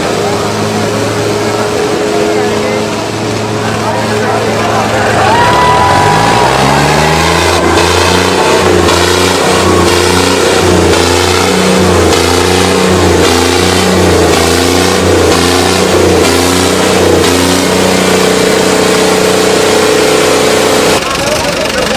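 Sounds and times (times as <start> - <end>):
engine revving: 0.0 - 21.9.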